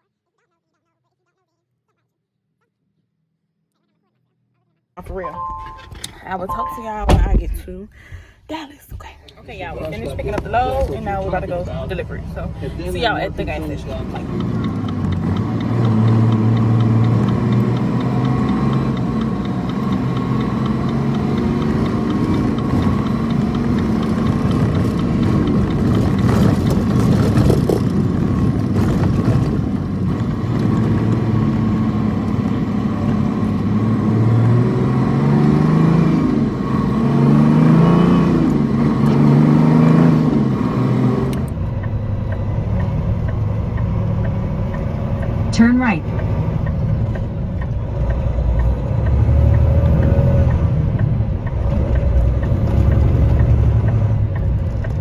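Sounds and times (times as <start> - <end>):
truck diesel engine running: 9.5 - 55.0.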